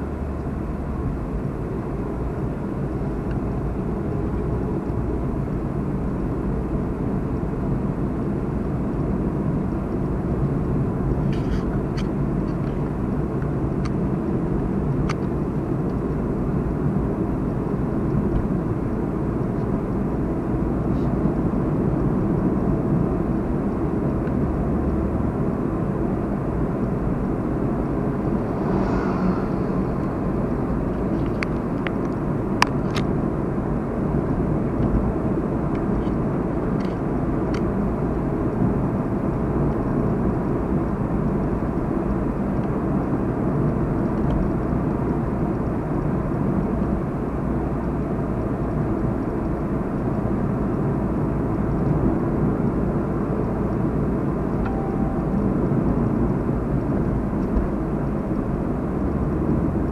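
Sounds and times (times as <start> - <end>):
low rumbling background noise: 0.0 - 59.9.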